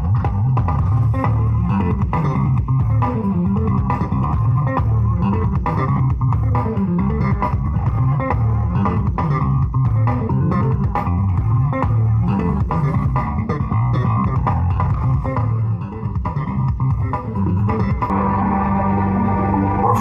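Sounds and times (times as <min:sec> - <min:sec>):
heavy bass line: 0:00.0 - 0:20.0
plucked guitar: 0:00.0 - 0:20.0.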